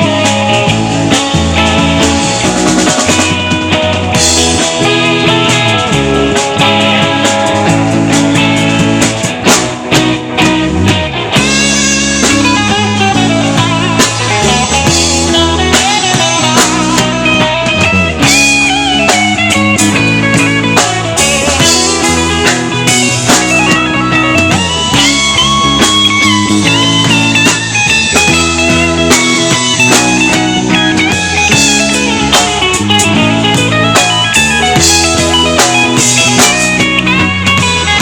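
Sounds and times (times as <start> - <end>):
electric guitar lead bending notes: 0.0 - 38.0
rock band playing: 0.0 - 38.0.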